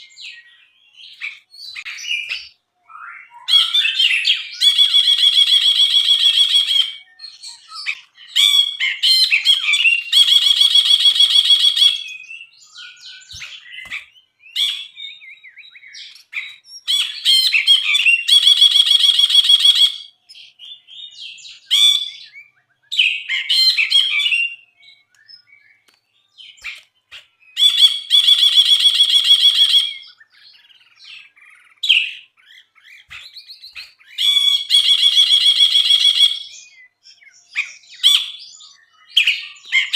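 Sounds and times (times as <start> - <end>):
bird chirps and whistles: 0.0 - 39.9.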